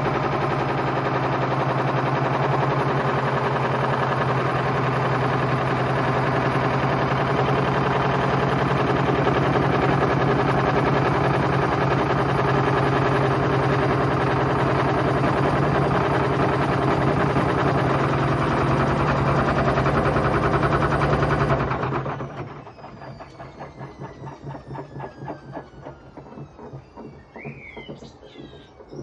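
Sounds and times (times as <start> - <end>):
drum knocking and rattling: 0.0 - 29.0
washing machine motor hum: 0.0 - 29.0.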